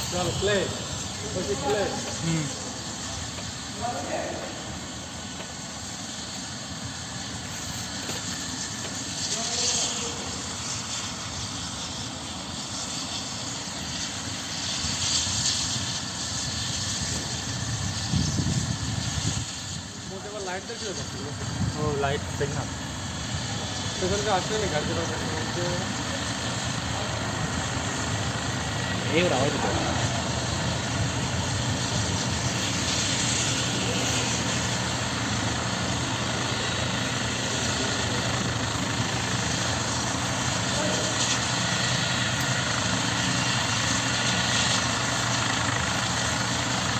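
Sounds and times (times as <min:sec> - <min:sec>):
helicopter engine and rotor: 0:00.0 - 0:46.9.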